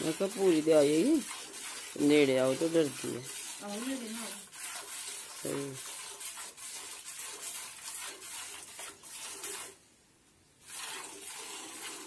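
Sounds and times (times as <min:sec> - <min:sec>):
milk squirting into a pail: 0:00.0 - 0:09.9, 0:10.6 - 0:12.0.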